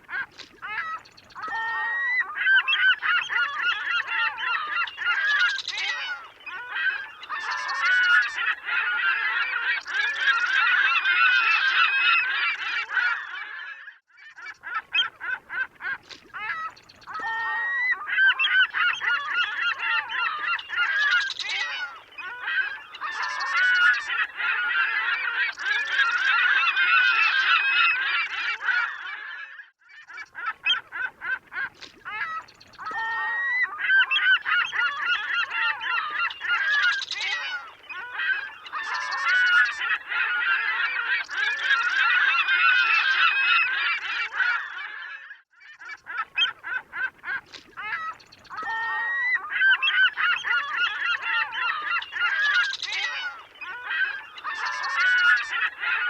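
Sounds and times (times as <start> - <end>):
gulls calling: 0.0 - 13.5, 14.4 - 29.2, 30.1 - 44.9, 45.8 - 56.0.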